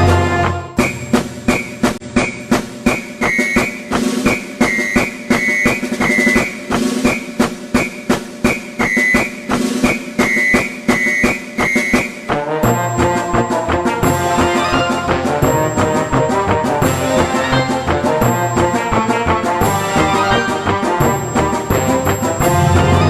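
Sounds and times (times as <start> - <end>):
background music with drum beat: 0.0 - 23.0.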